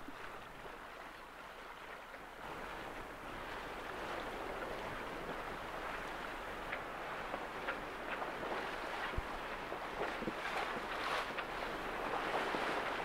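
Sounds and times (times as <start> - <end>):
sea water rushing: 0.0 - 13.0
wind: 0.0 - 13.0.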